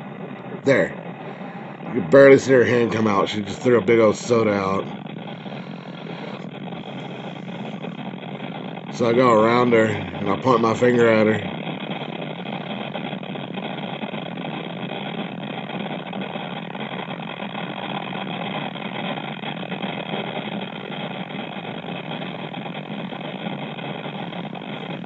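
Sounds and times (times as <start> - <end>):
faint steady whine: 0.0 - 25.0.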